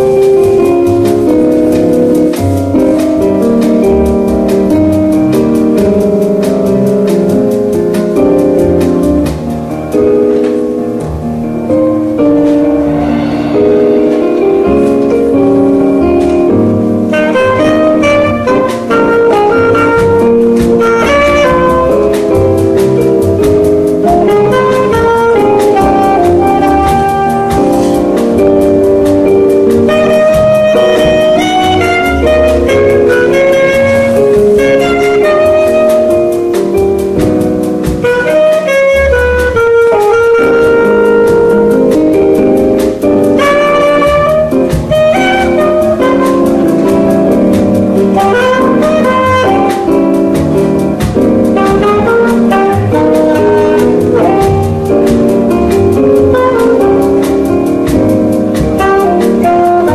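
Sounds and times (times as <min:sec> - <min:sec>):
bass line: 0:00.0 - 0:59.9
cymbals ticking: 0:00.0 - 0:59.9
drum kit: 0:00.0 - 0:59.9
piano: 0:00.0 - 0:59.9
saxophone melody: 0:00.0 - 0:59.9.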